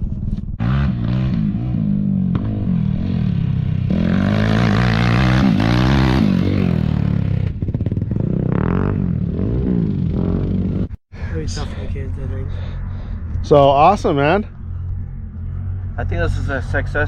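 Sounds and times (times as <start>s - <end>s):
off-road engine revving: 0.6s - 17.0s.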